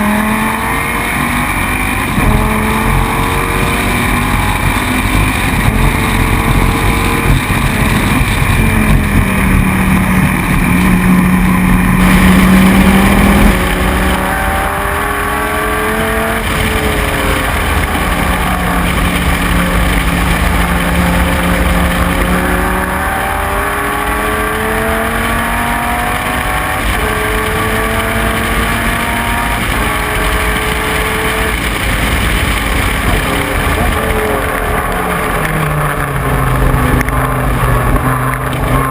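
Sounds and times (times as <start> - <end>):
race car engine shifting gears: 0.0 - 38.9.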